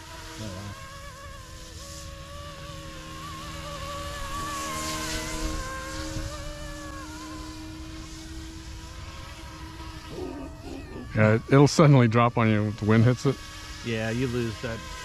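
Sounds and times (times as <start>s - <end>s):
rc helicopter motor whine: 0.0s - 15.0s.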